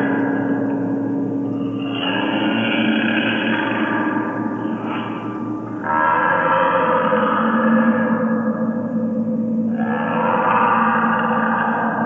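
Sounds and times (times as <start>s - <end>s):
distorted echoing drone: 0.0s - 12.0s.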